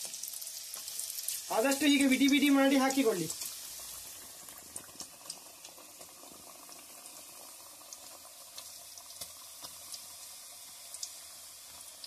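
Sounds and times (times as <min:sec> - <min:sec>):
food sizzling in hot oil: 0:00.0 - 0:12.0
oil popping and crackling: 0:00.0 - 0:12.0.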